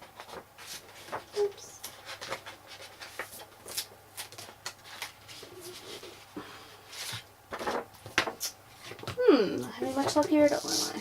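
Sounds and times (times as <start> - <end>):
paper rustling: 0.0 - 9.1.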